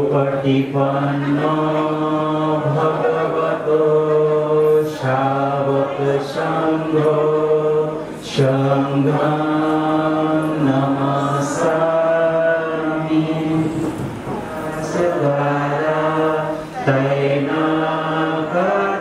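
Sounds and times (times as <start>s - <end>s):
voices chanting in unison: 0.0s - 19.0s.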